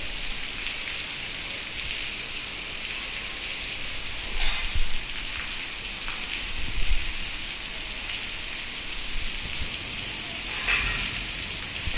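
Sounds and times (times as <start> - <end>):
heavy rain falling: 0.0 - 11.9.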